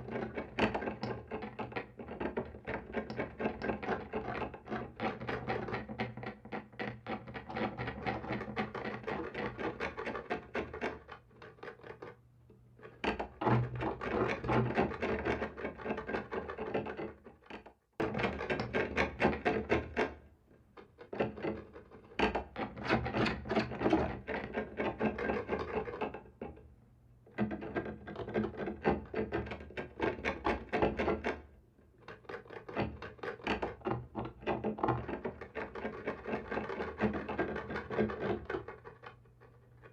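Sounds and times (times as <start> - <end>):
scratching on a wall: 0.0 - 12.2, 12.8 - 26.6, 27.3 - 39.9.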